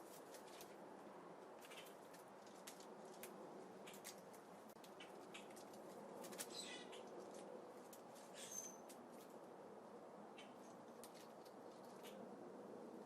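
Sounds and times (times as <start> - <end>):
birds pecking seeds: 0.0 - 9.6, 10.3 - 13.0.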